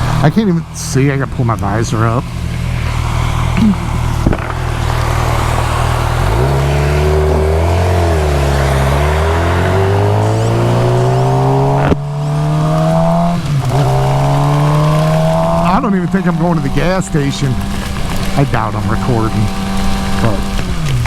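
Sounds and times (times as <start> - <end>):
motorcycle engine accelerating: 0.0 - 21.0
heavy rain: 1.8 - 21.0.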